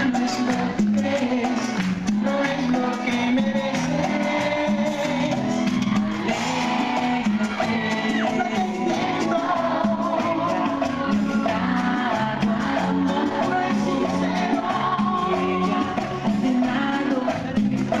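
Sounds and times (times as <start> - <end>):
live cumbia band playing: 0.0 - 18.0
person singing: 0.0 - 18.0.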